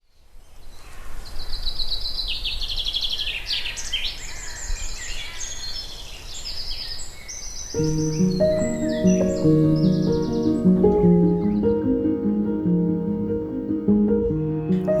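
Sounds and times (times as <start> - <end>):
songbirds singing: 0.1 - 14.2.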